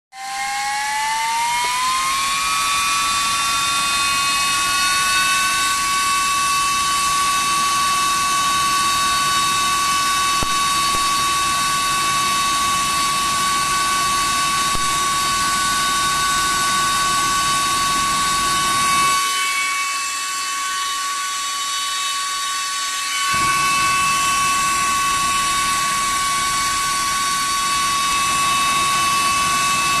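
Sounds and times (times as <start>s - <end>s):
electric blower fan whining: 0.1s - 30.0s.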